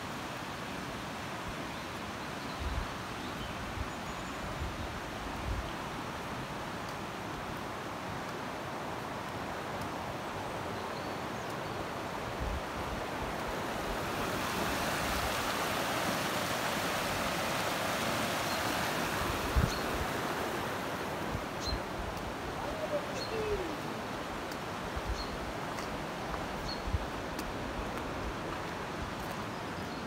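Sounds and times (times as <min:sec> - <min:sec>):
river water running over rocks: 0:00.0 - 0:30.0.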